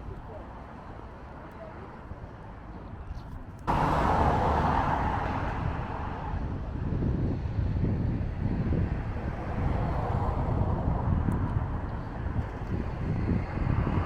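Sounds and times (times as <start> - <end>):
road traffic and wind noise: 0.0 - 14.0.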